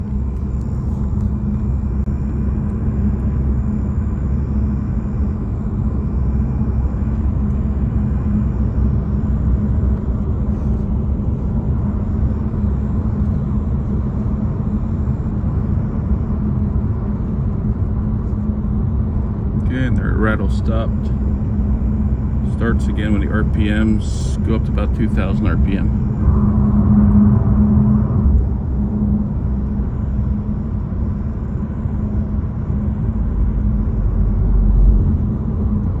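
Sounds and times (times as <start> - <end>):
buzzing rattle in car cabin: 0.0 - 36.0
low road and engine rumble: 0.0 - 36.0.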